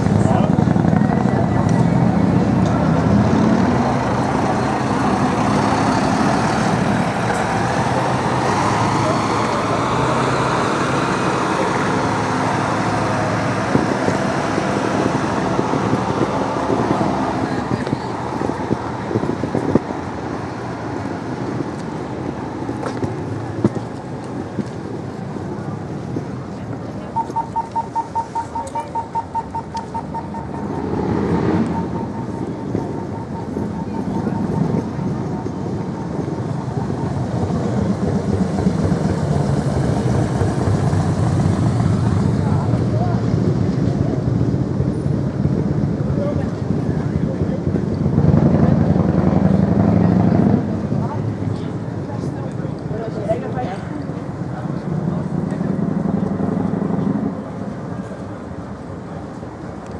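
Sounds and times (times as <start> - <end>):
bus engine drone: 0.0 - 59.9
passing vehicle: 0.0 - 59.9
street traffic noise: 0.0 - 59.9.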